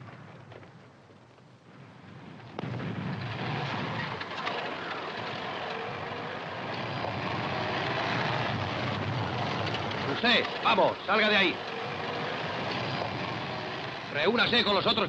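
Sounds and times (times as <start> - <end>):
low battle rumble: 0.0 - 14.7
car engine running loudly: 2.9 - 15.0.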